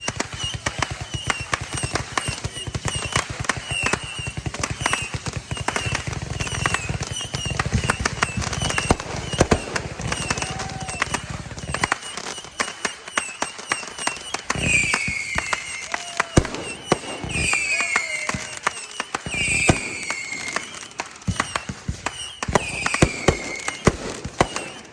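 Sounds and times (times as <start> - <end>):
firework whistle falling in pitch: 0.0 - 24.9
fireworks crackling pops: 0.0 - 24.9.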